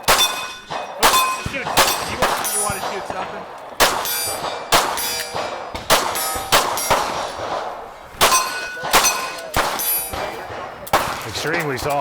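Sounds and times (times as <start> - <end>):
pistol shots: 0.0 - 12.0
steel targets clanging: 0.0 - 12.0.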